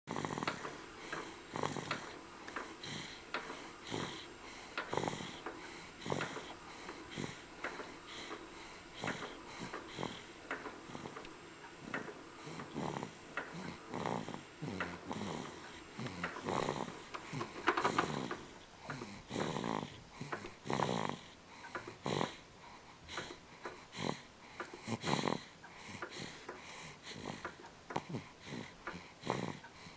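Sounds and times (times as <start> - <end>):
snores and snorts: 0.1 - 29.9.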